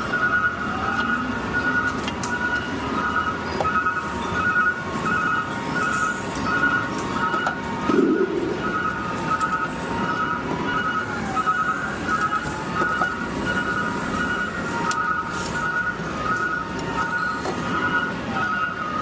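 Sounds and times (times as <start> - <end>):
truck backup alarm beeping: 0.0 - 19.0
truck engine running: 0.0 - 19.0.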